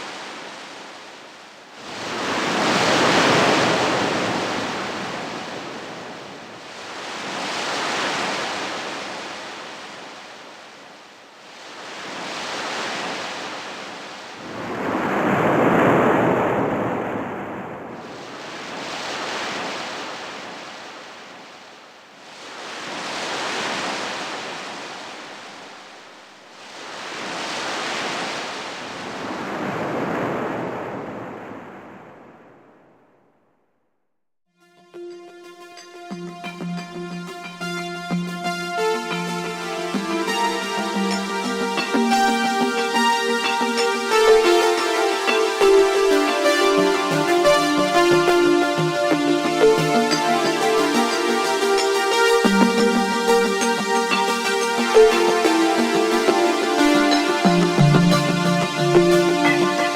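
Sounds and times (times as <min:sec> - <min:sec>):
waves washing ashore: 0:00.0 - 0:33.0, 0:37.4 - 0:59.9.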